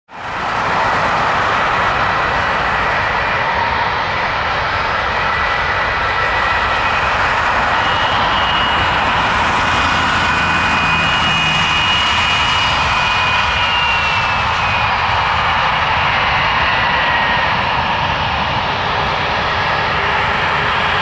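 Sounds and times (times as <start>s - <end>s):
higher jet engine whine: 0.1s - 21.0s
jet engines running: 0.1s - 21.0s.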